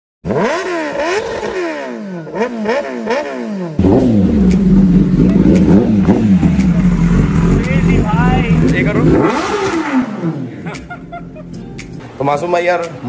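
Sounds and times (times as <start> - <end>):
motorcycle engine revving: 0.2 - 12.1.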